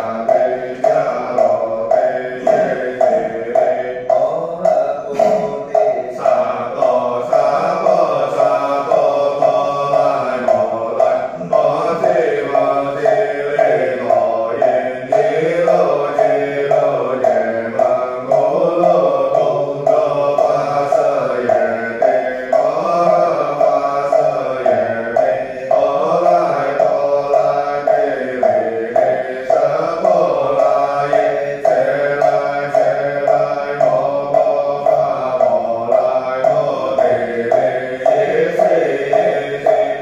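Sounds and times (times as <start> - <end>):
voices chanting: 0.0 - 40.0.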